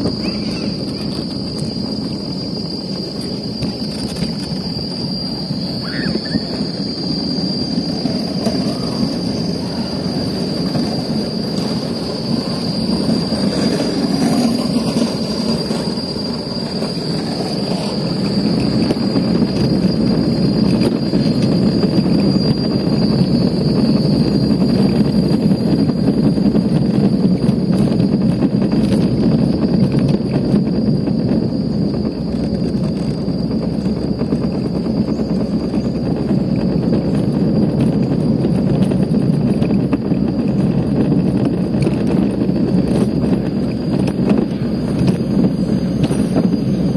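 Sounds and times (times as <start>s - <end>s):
cart wheels rumbling on track: 0.0s - 46.9s
thin high whine: 0.0s - 46.9s.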